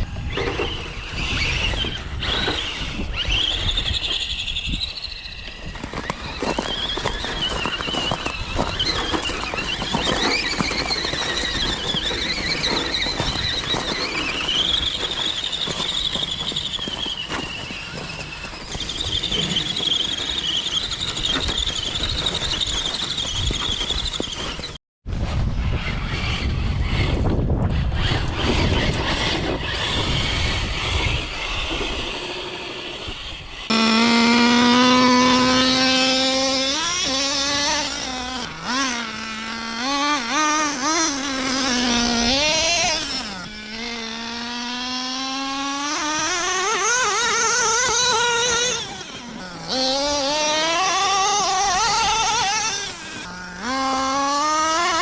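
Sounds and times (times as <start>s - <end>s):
small engine revving: 0.0s - 55.0s.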